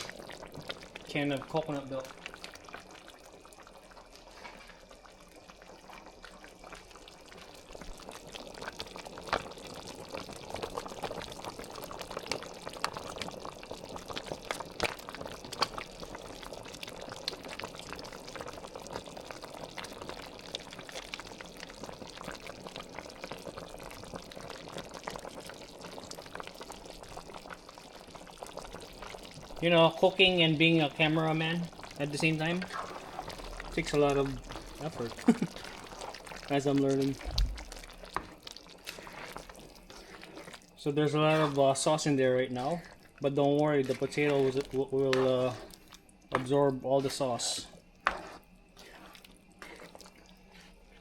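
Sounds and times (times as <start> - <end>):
liquid pouring and bubbling in pot: 0.0 - 51.0.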